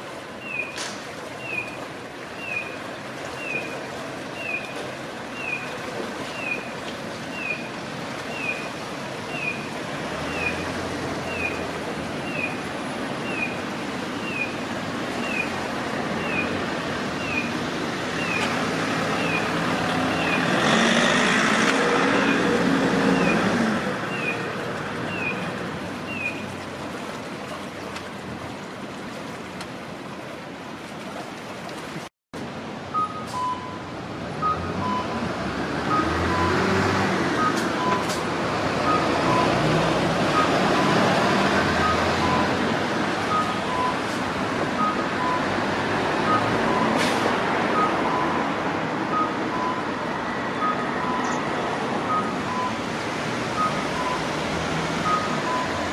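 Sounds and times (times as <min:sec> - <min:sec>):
traffic noise: 0:00.0 - 0:55.9.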